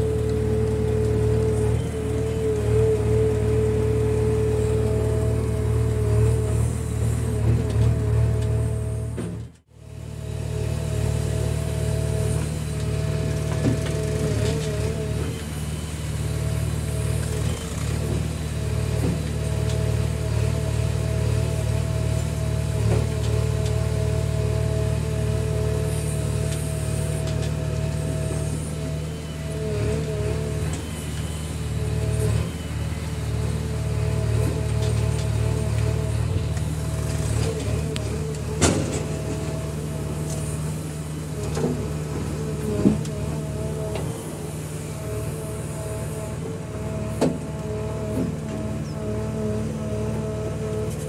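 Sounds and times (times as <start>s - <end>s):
diesel engine running under load: 0.0s - 51.0s.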